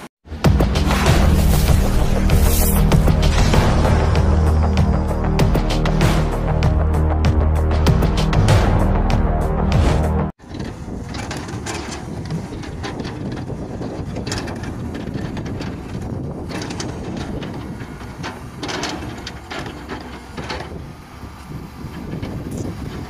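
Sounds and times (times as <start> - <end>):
excavator diesel engine running: 0.3 - 9.7, 10.4 - 23.0.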